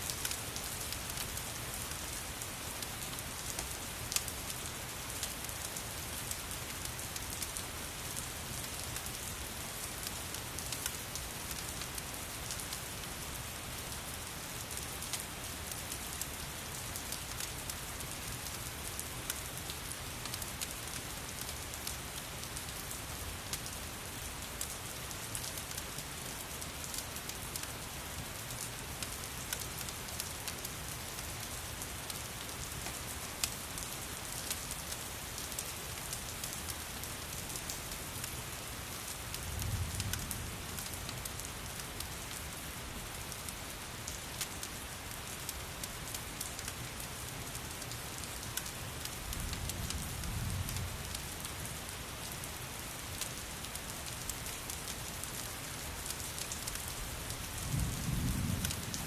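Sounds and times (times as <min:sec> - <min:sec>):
steady rain: 0:00.0 - 0:59.0
wood fire crackling: 0:00.1 - 0:59.0.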